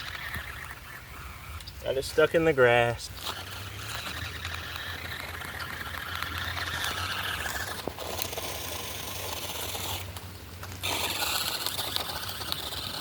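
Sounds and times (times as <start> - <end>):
toy car electric motor whining: 0.0 - 1.6, 3.2 - 13.0.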